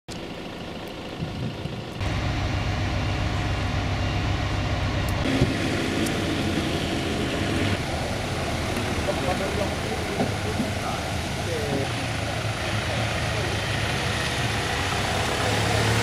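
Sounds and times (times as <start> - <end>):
motor vehicles rumbling: 0.1 - 16.0.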